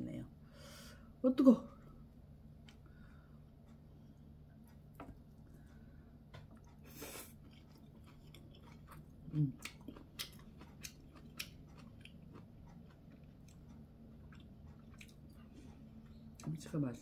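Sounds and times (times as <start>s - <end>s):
chewing with small clicks: 2.6s - 16.7s.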